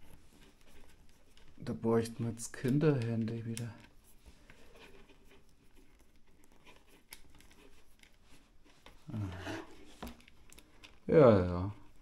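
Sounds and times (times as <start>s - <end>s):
light handling noise: 0.0s - 11.2s.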